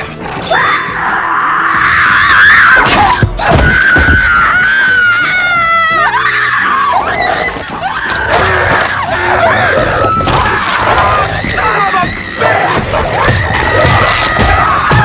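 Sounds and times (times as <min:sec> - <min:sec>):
film music: 0:00.0 - 0:15.0
cries and shouts: 0:00.4 - 0:15.0.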